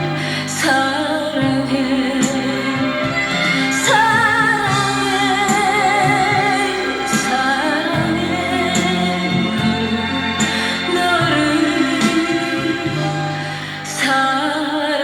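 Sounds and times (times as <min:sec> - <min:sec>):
woman singing with vibrato: 0:00.0 - 0:15.0
band accompaniment: 0:01.4 - 0:14.0.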